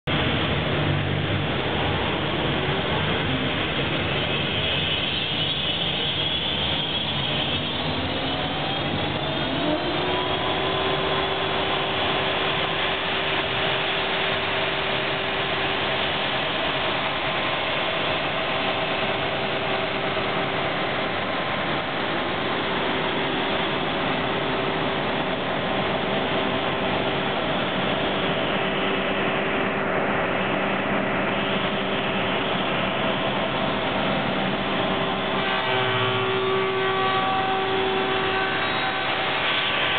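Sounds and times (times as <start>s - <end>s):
sanding machine whine: 4.1s - 39.9s.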